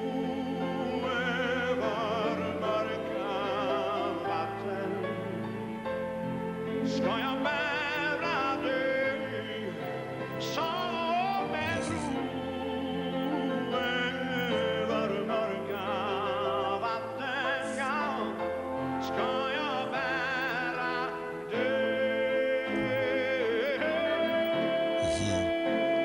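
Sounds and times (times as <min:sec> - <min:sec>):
orchestral strings ballad: 0:00.0 - 0:26.0.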